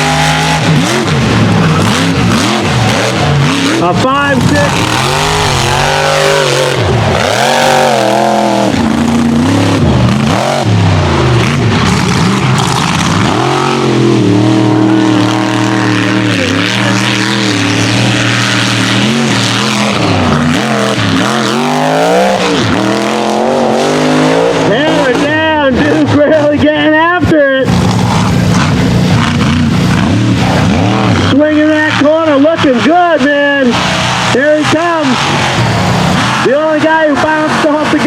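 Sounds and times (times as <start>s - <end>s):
truck engine revving hard: 0.0s - 38.0s.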